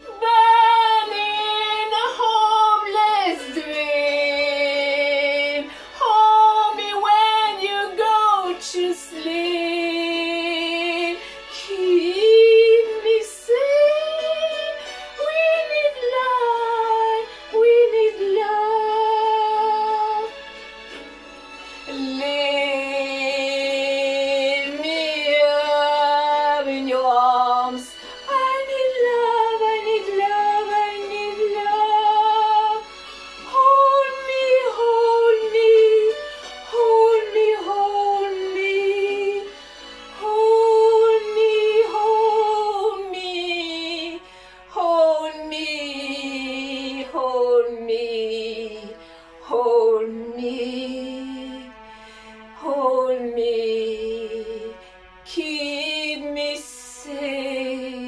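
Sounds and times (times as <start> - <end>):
woman singing: 0.0 - 20.4, 21.9 - 51.9, 52.5 - 58.0.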